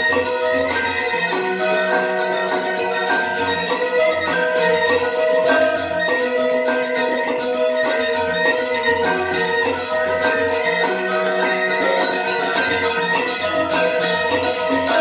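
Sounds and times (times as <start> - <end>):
high percussion strokes: 0.0 - 15.0
metallophones ringing melody: 0.0 - 15.0.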